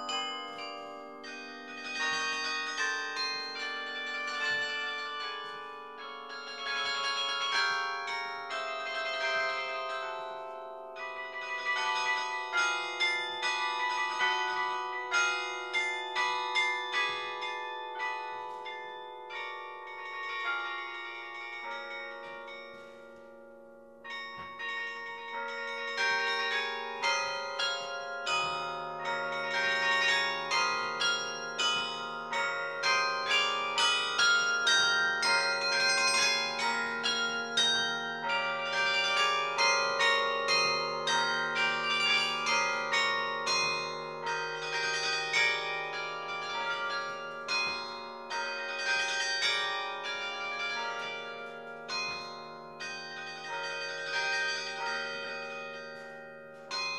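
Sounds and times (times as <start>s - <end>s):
carillon bells playing tune: 0.0s - 56.9s.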